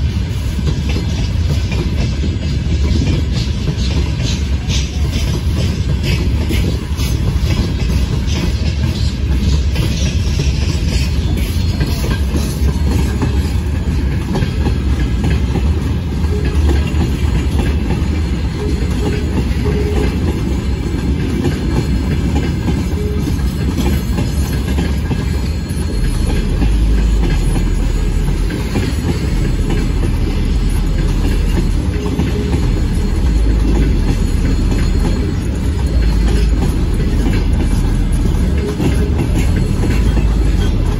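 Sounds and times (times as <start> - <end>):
freight train rumbling past: 0.0 - 40.9
wheels clicking over rail joints: 0.0 - 40.9.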